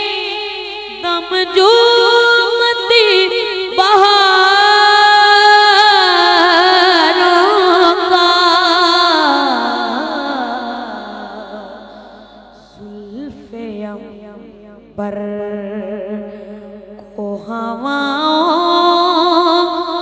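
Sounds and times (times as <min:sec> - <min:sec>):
boy singing through a microphone: 0:00.0 - 0:20.0.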